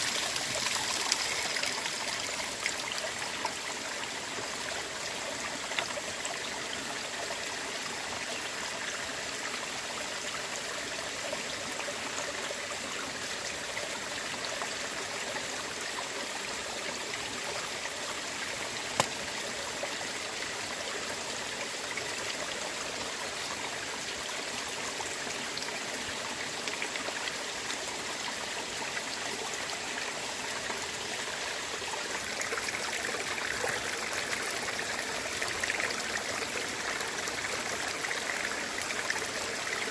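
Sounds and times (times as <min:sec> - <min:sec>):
running water: 0:00.0 - 0:08.6, 0:13.3 - 0:39.9.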